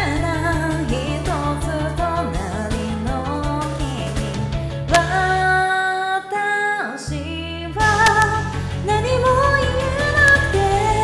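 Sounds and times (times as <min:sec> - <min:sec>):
woman singing pop song: 0:00.0 - 0:11.0.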